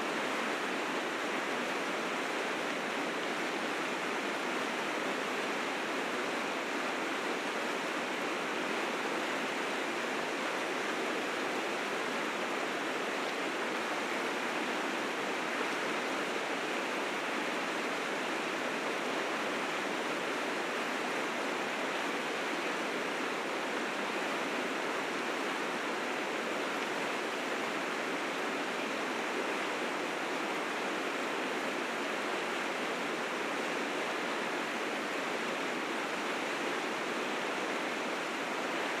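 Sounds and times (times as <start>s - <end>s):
river rapids rushing: 0.0s - 39.0s.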